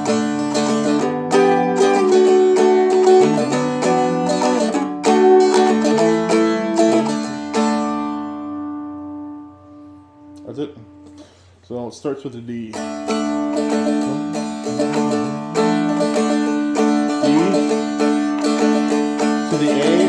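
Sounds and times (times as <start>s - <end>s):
dulcimer strummed chords: 0.0s - 11.3s, 12.6s - 20.0s.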